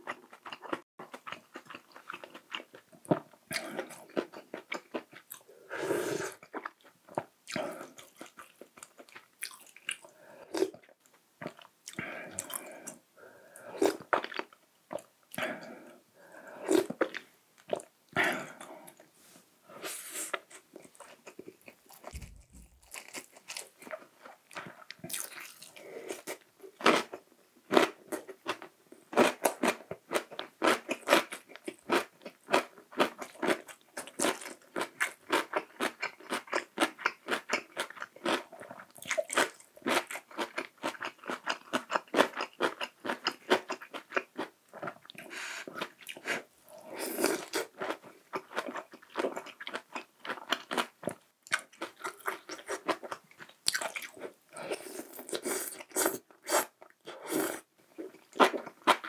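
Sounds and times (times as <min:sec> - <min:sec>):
person chewing crunchy food: 0:00.0 - 0:10.8, 0:11.4 - 0:19.1, 0:20.2 - 0:59.0.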